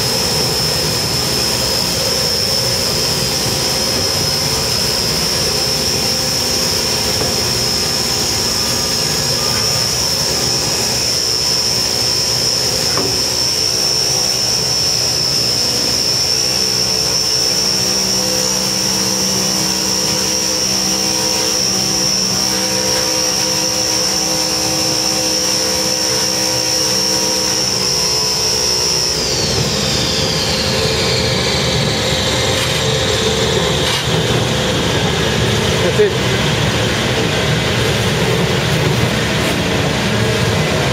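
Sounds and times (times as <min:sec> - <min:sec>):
heavy machinery whining: 0:00.0 - 0:40.9.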